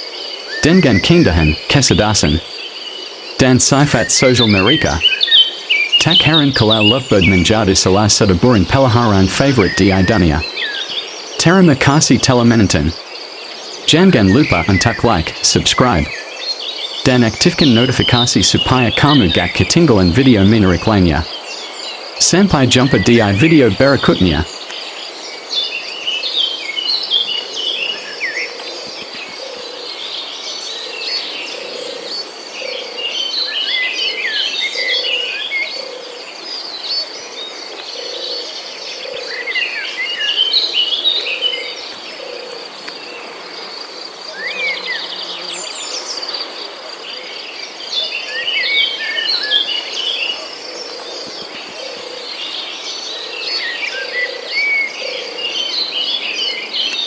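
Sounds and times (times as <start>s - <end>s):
birds chirping: 0.0s - 57.0s
crickets trilling: 0.0s - 57.0s.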